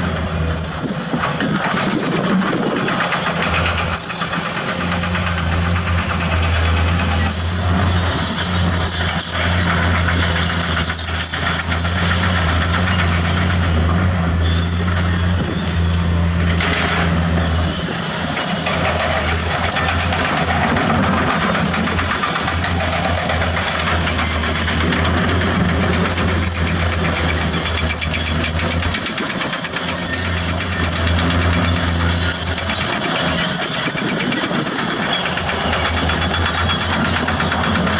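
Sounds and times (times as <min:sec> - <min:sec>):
diesel engine droning: 0:00.0 - 0:37.9
steel tracks clanking and squealing: 0:00.0 - 0:37.9.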